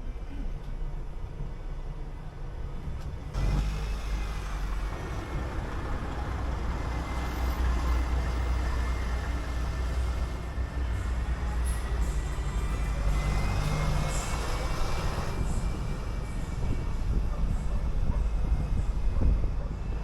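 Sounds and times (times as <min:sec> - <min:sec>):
bus engine accelerating: 0:00.0 - 0:20.0
road noise: 0:00.0 - 0:20.0.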